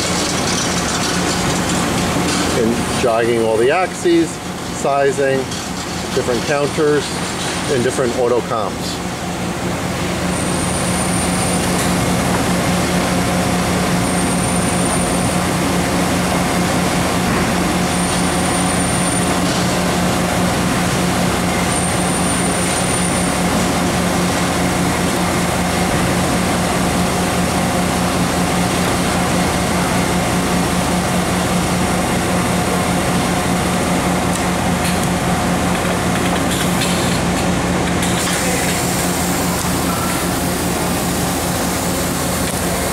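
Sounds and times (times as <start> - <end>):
grinder machine humming: 7.9 - 42.9.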